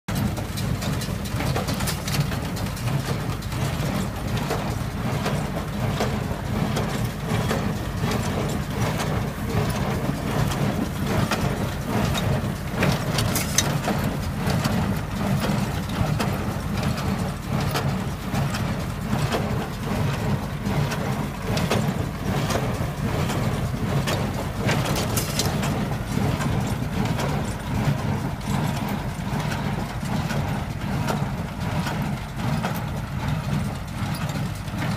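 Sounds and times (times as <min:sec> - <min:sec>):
tractor engine under load: 0:00.1 - 0:34.9.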